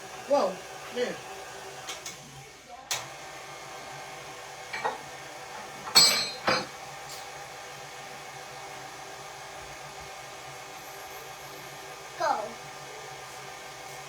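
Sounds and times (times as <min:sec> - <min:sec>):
stand mixer motor hum: 0:00.0 - 0:14.0.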